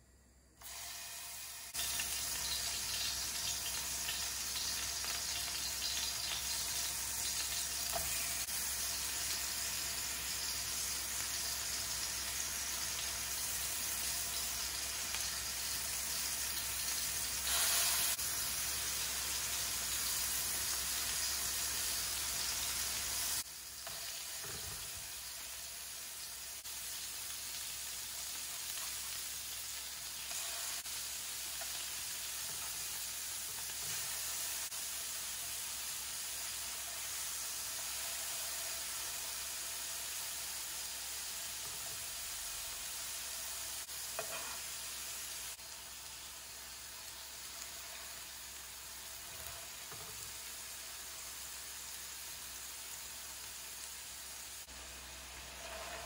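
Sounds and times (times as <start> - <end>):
burger patties sizzling in oil: 0.6 - 56.0.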